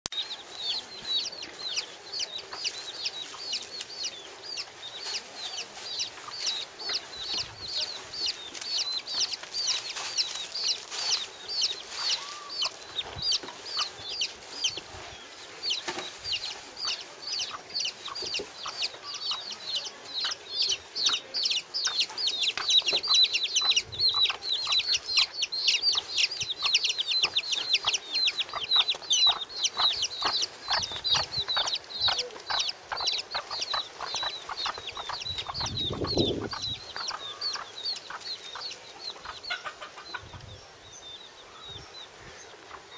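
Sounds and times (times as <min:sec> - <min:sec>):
chicks peeping: 0:00.1 - 0:42.9.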